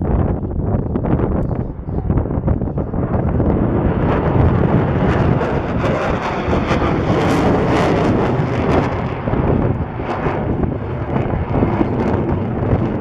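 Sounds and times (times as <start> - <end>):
jet engine roar: 0.0 - 13.0
wind buffeting microphone: 0.0 - 13.0.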